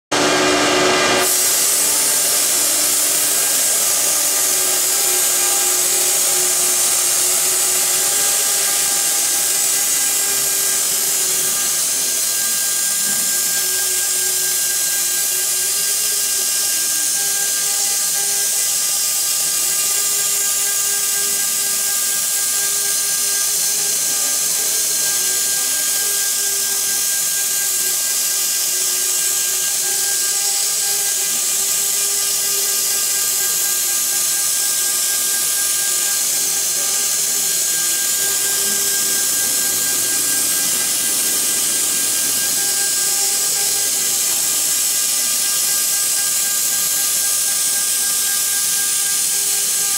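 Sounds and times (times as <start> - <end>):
cutter carving wood: 0.1 - 49.9
router spindle hissing and whining: 0.1 - 49.9.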